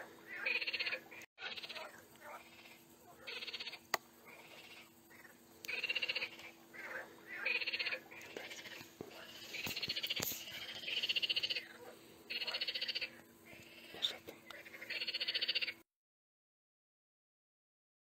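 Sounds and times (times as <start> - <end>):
frogs calling in pulsed trills: 0.0 - 15.8.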